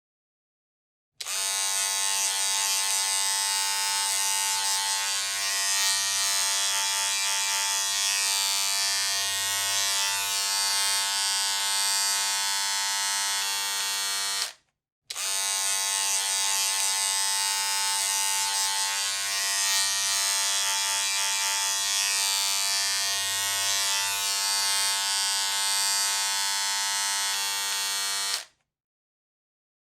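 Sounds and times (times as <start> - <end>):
electric hair clippers buzzing: 1.2 - 28.6.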